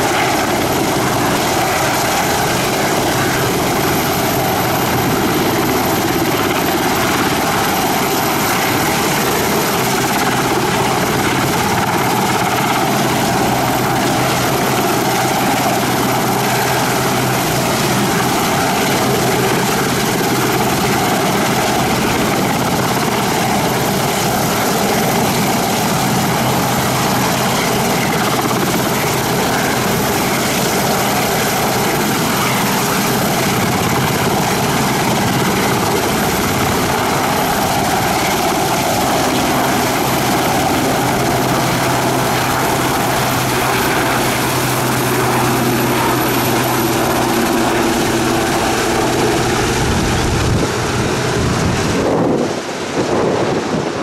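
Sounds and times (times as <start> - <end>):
helicopter rotor and engine roar: 0.0 - 54.0
high turbine whine: 0.0 - 54.0.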